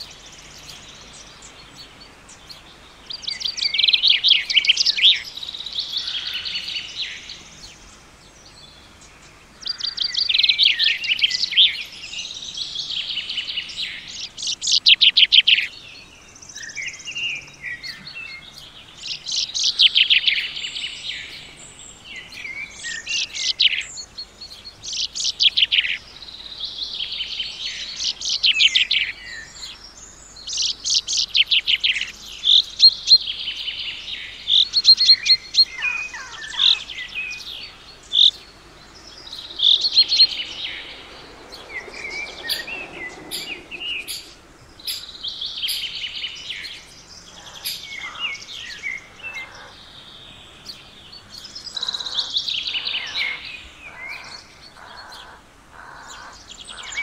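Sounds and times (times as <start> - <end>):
lower bird calls: 0.0 - 57.0
songbirds chirping and singing: 0.0 - 57.0.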